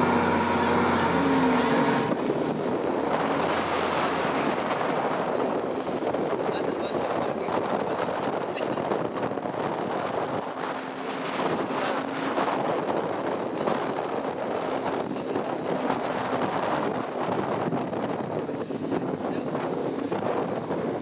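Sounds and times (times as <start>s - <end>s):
bus engine and road noise: 0.0s - 21.0s
wind rushing over microphone: 0.0s - 21.0s.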